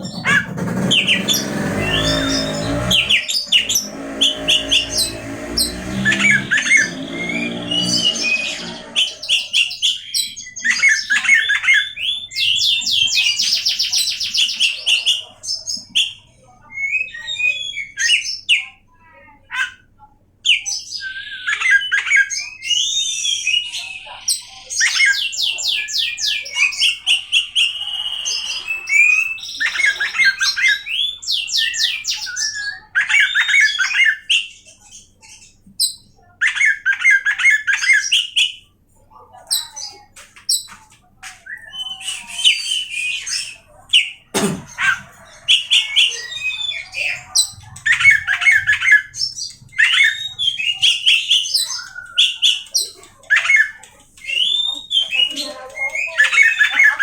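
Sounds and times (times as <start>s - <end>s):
songbird singing trills and whistles: 0.0s - 18.8s, 20.4s - 38.7s, 39.5s - 57.0s.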